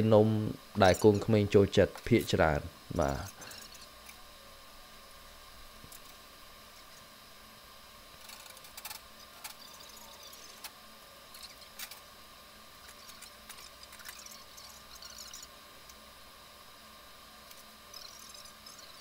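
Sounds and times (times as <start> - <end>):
steady faint hum: 0.0 - 19.0.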